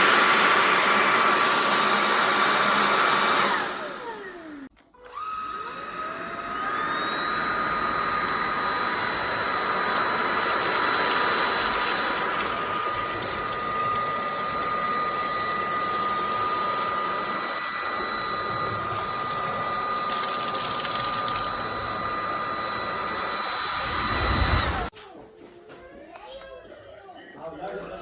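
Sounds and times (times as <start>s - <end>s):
stick vacuum motor whine: 0.0s - 24.9s.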